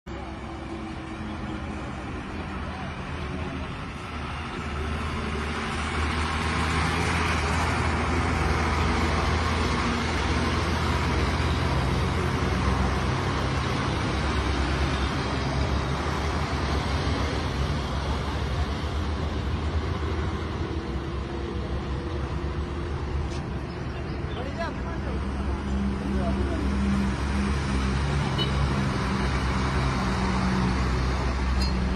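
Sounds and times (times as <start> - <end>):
diesel lorries driving past: 0.1 - 31.9
tyre and road noise: 0.1 - 31.9.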